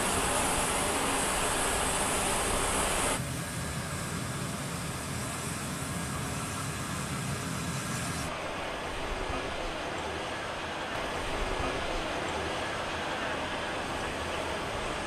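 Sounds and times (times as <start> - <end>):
tank turbine engine rumble: 0.0 - 15.0.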